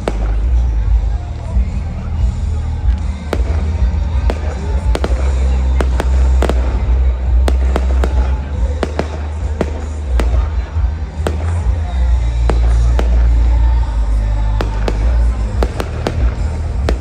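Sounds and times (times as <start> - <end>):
fireworks bangs and cracks: 0.0 - 17.0
steady low rumble: 0.0 - 17.0.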